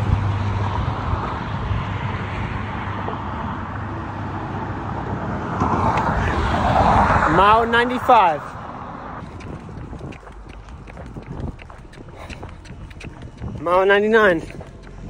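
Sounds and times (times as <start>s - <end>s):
road traffic on a bridge: 0.0s - 15.0s
vehicle approaching: 0.0s - 15.0s.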